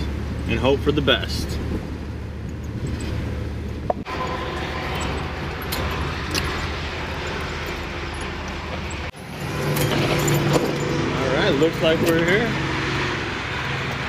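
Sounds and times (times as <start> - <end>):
road noise hiss: 0.0 - 14.0
vehicle engine rumble: 0.0 - 14.0.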